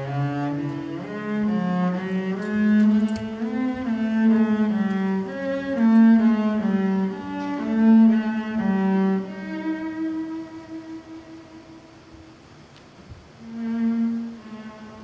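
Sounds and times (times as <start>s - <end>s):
low bowed string melody: 0.0s - 12.7s, 13.3s - 15.0s.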